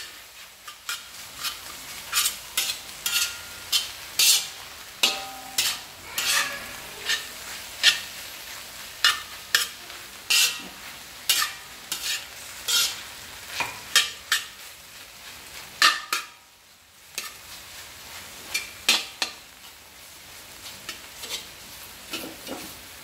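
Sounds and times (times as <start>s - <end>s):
food sizzling in a pan: 0.0s - 23.0s
spatula scraping a pan: 0.0s - 23.0s.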